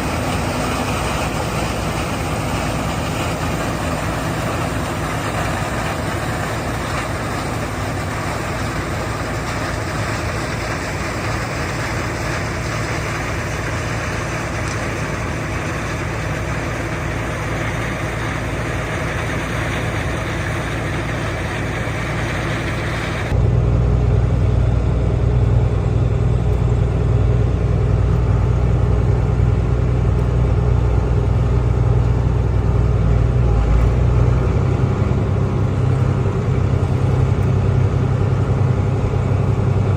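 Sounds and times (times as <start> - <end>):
combine harvester running: 0.0 - 39.9
loud low engine drone: 0.0 - 39.9.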